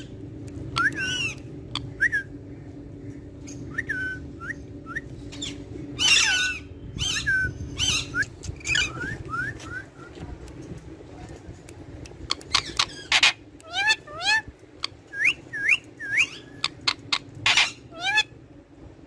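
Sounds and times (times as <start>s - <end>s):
parakeet whistled calls and chirps: 0.0s - 2.5s, 3.4s - 10.2s, 12.3s - 18.3s.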